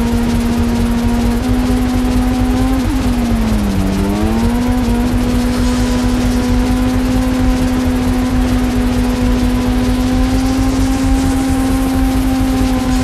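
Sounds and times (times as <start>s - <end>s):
motorcycle engine at high revs: 0.0s - 13.0s.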